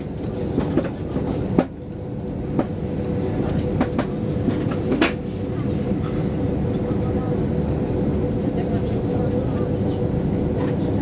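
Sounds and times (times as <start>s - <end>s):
aircraft cabin rumble and hum: 0.0s - 11.0s.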